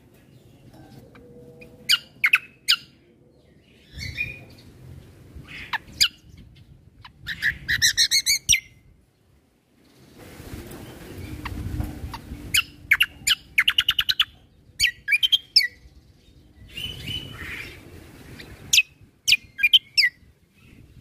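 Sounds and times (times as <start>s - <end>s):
songbird chirps and trill: 0.0s - 10.2s, 10.8s - 21.0s.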